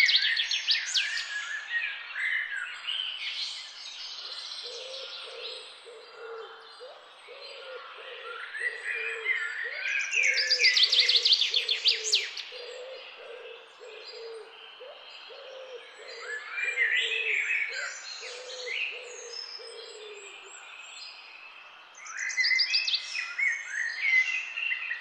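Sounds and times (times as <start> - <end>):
birds singing: 0.0 - 25.0.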